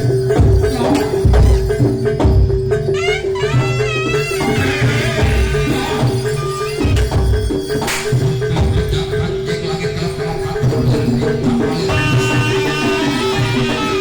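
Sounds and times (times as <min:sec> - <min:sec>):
metallophone notes: 0:00.0 - 0:14.0.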